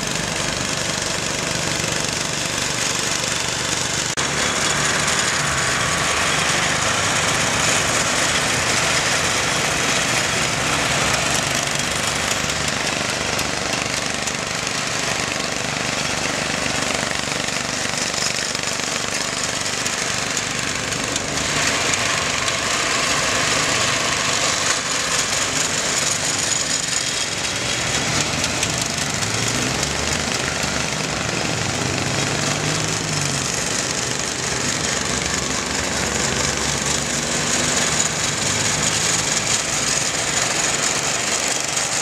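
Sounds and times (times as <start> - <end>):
mowing machine rattling clatter: 0.0 - 42.0.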